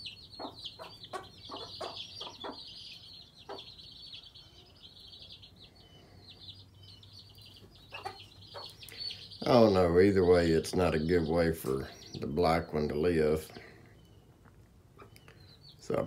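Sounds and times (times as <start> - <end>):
hen clucking: 0.0 - 13.3, 14.9 - 16.0
chicks peeping: 0.0 - 16.0.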